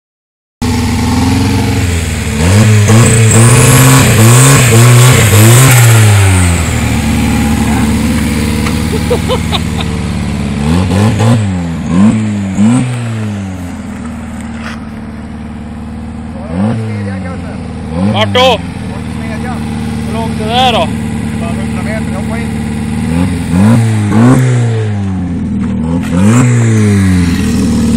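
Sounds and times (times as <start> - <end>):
car engine revving and idling: 0.6 - 27.9.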